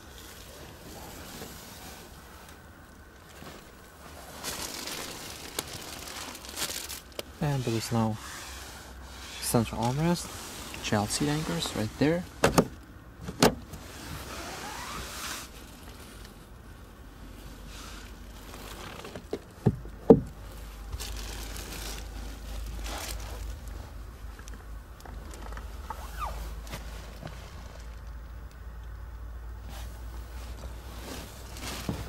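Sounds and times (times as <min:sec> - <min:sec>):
rustling and handling noise: 0:00.0 - 0:32.0.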